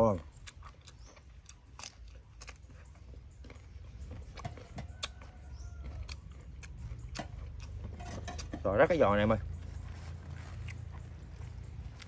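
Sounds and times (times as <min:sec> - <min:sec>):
person chewing crunchy food: 0:00.0 - 0:08.6, 0:09.6 - 0:12.0.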